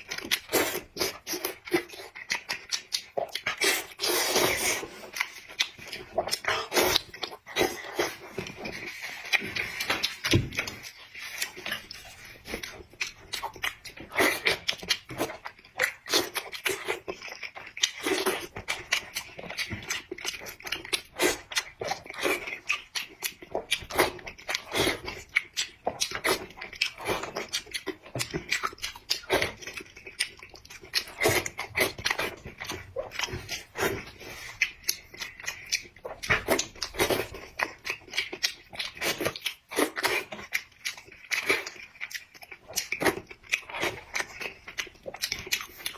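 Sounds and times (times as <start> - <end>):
person chewing and biting food: 0.0 - 45.9.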